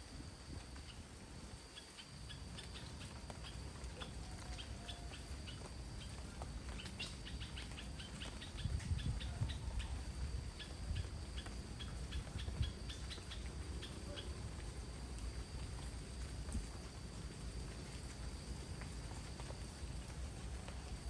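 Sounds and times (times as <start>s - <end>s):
rain rushing: 0.0s - 21.0s.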